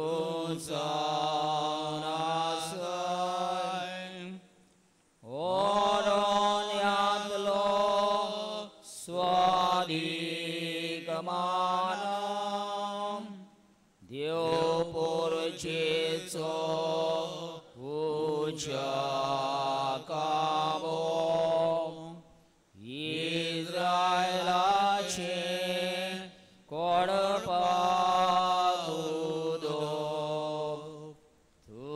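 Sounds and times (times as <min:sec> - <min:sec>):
person singing devotional chant: 0:00.0 - 0:04.6, 0:05.2 - 0:31.9.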